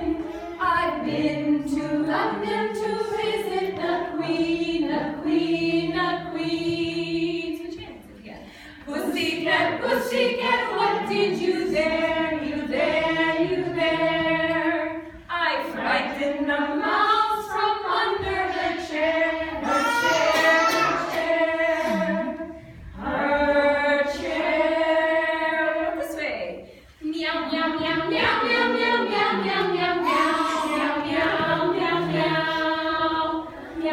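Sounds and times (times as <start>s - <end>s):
group of voices singing: 0.0s - 7.6s, 8.8s - 33.9s.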